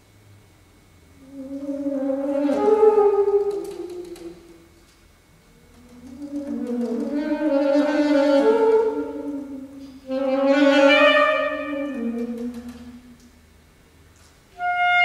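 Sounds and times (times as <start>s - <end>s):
solo saxophone: 1.2s - 4.8s, 5.4s - 13.4s, 14.5s - 15.0s.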